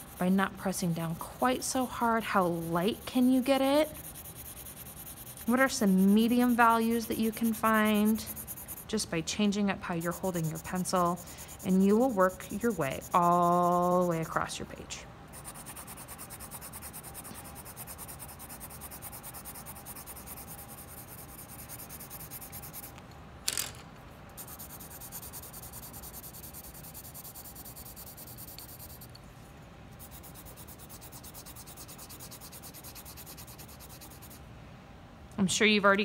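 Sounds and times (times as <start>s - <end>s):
pencil scratching on paper: 0.0s - 9.0s, 9.9s - 14.4s, 15.3s - 22.9s, 24.4s - 29.1s, 30.0s - 34.4s.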